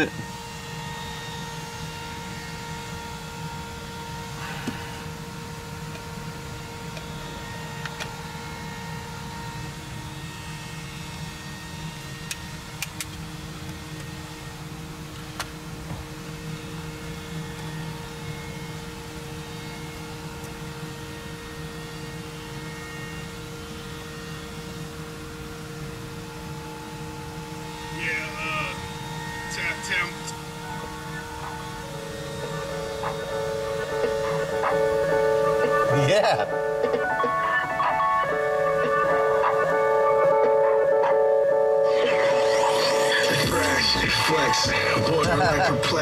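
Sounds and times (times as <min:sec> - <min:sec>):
mechanical hum with tones: 0:00.0 - 0:46.0.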